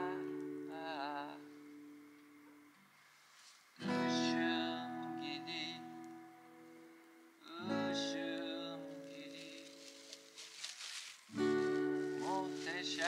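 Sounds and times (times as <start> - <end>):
acoustic guitar strummed chords: 0.0 - 2.7, 3.8 - 10.2, 11.3 - 13.0.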